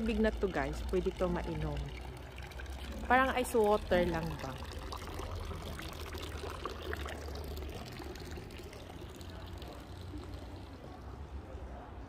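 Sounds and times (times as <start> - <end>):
drinking fountain water running: 0.0 - 11.9.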